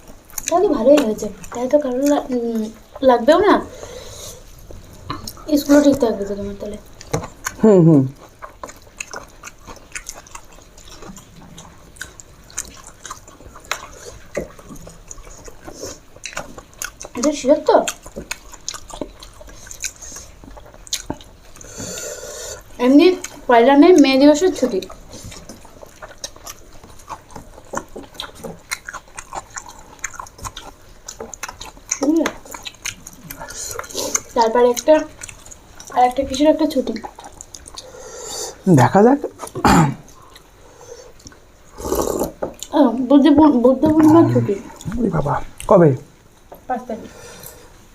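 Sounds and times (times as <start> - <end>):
wet chewing smacks: 0.0 - 38.6.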